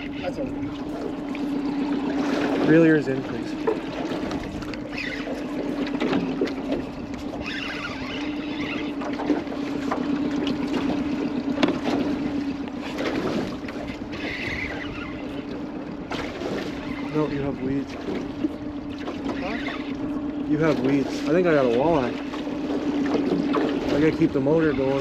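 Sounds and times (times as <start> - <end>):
choppy water against hull: 0.0 - 25.0
outboard motor humming: 0.0 - 25.0
wind: 0.0 - 25.0.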